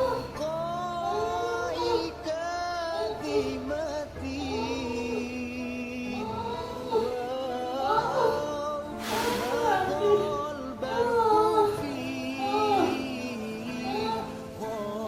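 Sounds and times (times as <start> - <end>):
gliding sung melody: 0.0 - 15.0.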